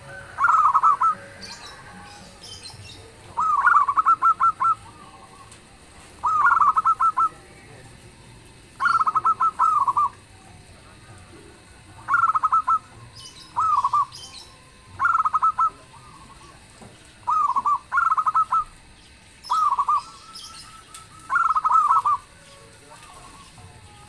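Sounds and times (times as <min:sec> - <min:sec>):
dove cooing in rippling phrases: 0:00.0 - 0:23.8.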